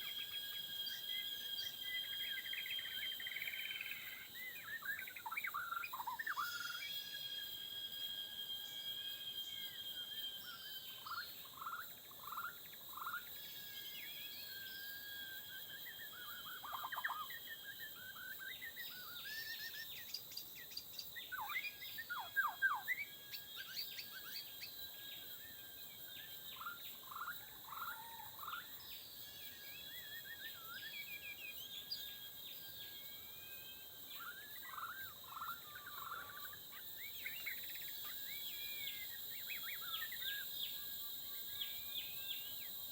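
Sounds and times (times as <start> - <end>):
forest insects droning: 0.0 - 42.9.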